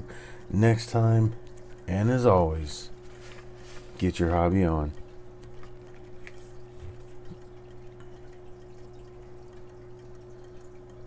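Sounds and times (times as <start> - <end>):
steady held tone hum: 0.0 - 11.0.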